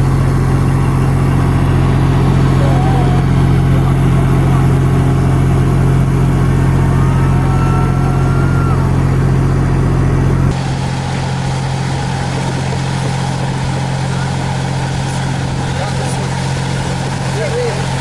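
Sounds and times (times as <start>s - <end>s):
engine humming: 0.0s - 17.2s
noisy outdoor background: 0.0s - 18.0s.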